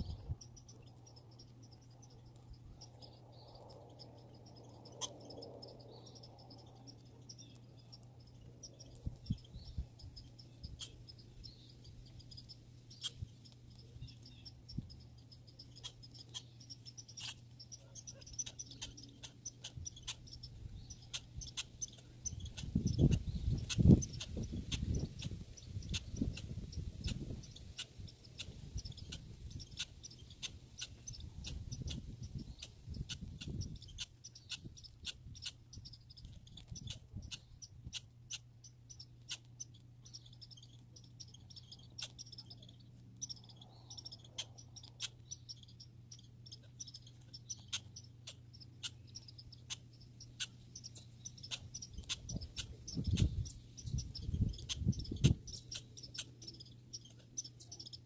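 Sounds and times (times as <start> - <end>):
squirrel gnawing clicks: 0.0 - 58.0
steady low hum: 0.0 - 58.0.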